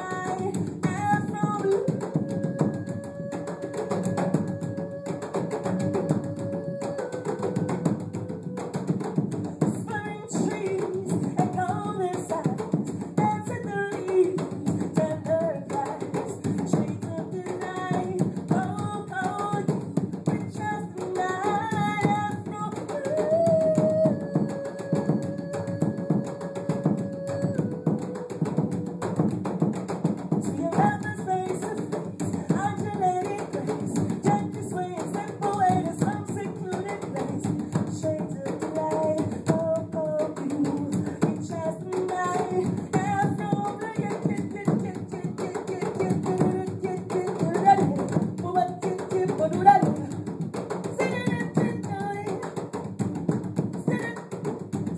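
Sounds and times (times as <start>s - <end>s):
woman singing without words: 0.0s - 29.3s, 30.3s - 52.8s, 53.7s - 54.5s
hand drums playing: 0.0s - 54.9s.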